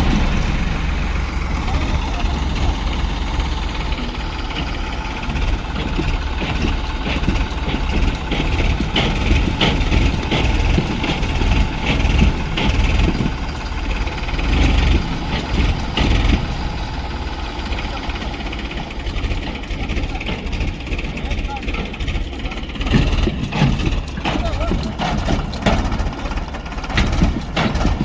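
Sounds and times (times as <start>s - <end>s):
tractor engine rumbling: 0.0s - 28.0s.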